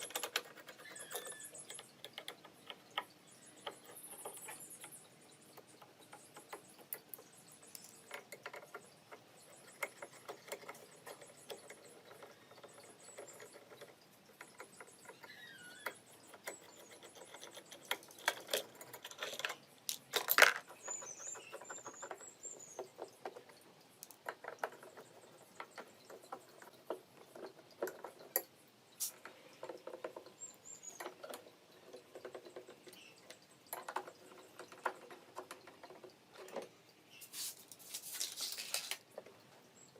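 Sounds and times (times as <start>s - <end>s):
light clicks and taps of objects: 0.0s - 39.9s.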